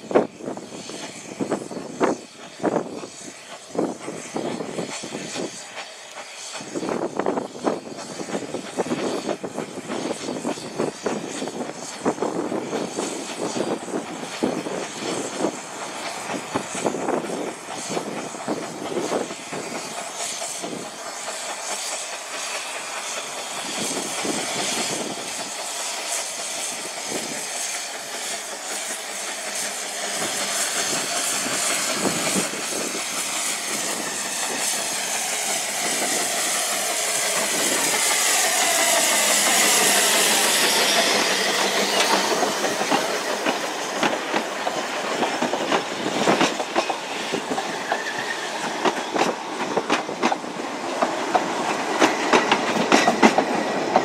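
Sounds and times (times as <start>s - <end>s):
hissing steam: 0.0s - 54.0s
steam locomotive chuffs: 0.0s - 54.0s.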